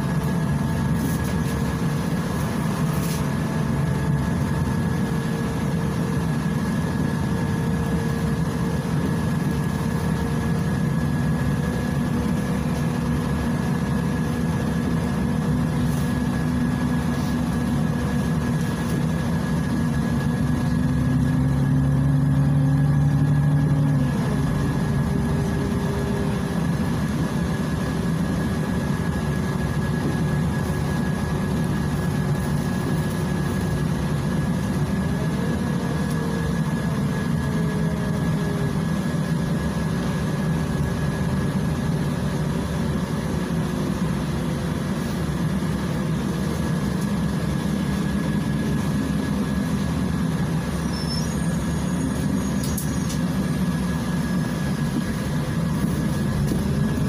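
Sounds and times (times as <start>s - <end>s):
bus engine droning: 0.0s - 57.0s
steady high whine: 0.0s - 57.0s.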